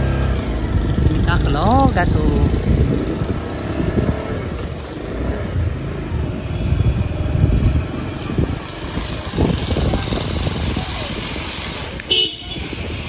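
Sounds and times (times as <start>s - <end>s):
motorbike engine: 0.0s - 13.0s
road noise: 0.0s - 13.0s.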